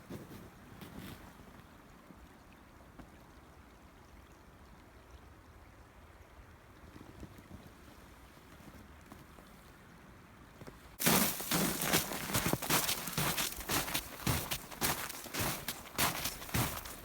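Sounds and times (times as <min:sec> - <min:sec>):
flowing river water: 0:01.4 - 0:17.0.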